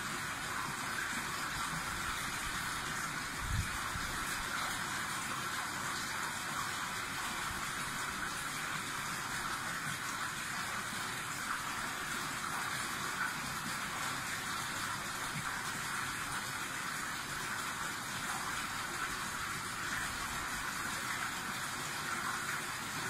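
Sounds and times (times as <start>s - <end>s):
water rushing in a pond: 0.0s - 23.0s.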